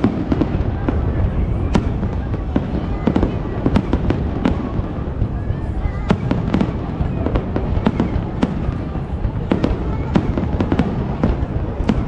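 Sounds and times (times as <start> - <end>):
distant explosions rumble: 0.0 - 12.0
fireworks bursting: 0.0 - 12.0.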